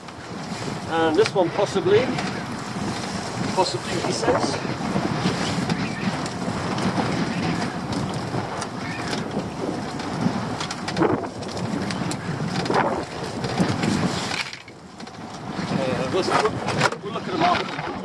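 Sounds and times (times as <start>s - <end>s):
water lapping at boat: 0.0s - 18.0s
wind buffeting microphone: 0.0s - 18.0s
rustling and knocking of netting: 2.0s - 18.0s.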